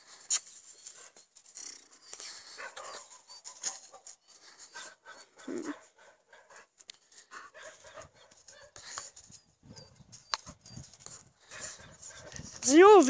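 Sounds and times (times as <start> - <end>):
paws scrambling on dry grass: 0.0 - 13.0
dog panting: 0.8 - 12.6.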